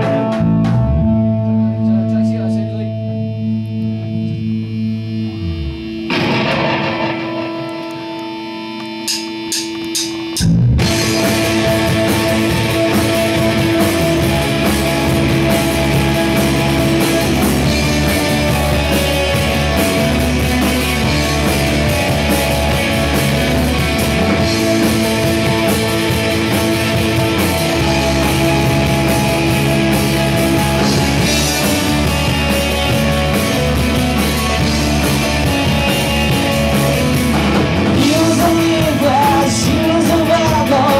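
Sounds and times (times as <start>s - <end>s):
guitar ringing notes: 0.0s - 40.8s
rock band playing: 0.0s - 40.9s.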